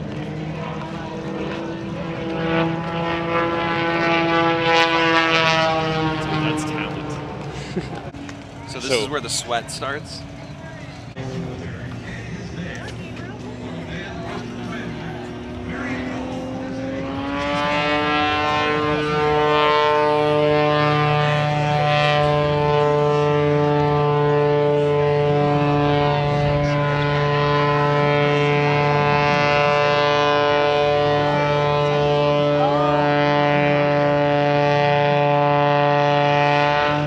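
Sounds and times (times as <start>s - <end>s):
propeller airplane engine droning: 0.0s - 37.0s.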